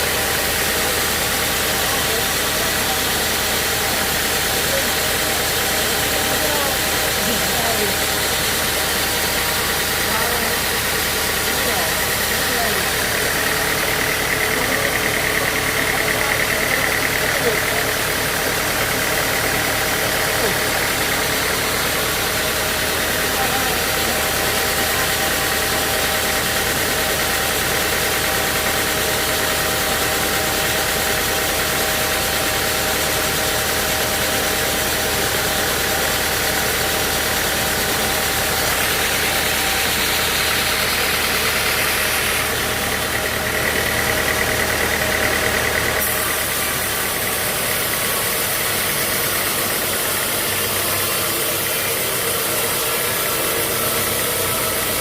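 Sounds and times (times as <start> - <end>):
sawmill machinery running: 0.0 - 55.0
steady machine whine: 0.0 - 55.0.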